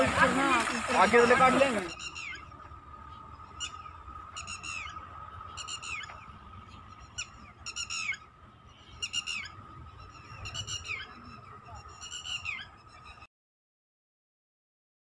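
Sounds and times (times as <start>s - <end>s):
bird harsh calls: 0.2s - 13.3s.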